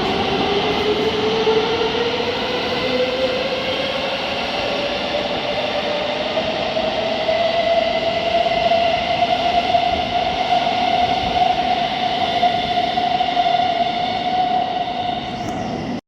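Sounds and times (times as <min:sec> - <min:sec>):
loud rumbling train: 0:00.0 - 0:16.0.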